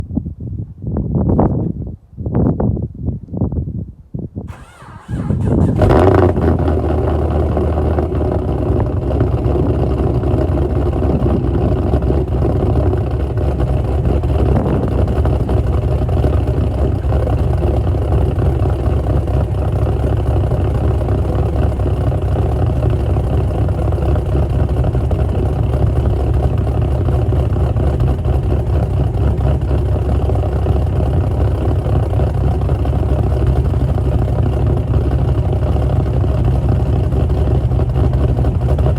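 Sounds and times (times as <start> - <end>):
car engine starting and idling: 4.5 - 38.9.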